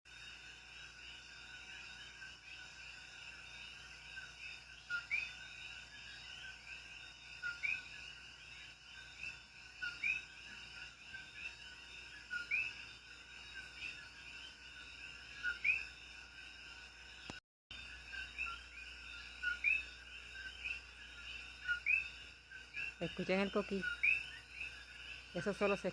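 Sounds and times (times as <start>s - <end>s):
chorus of calling frogs: 0.1s - 25.9s.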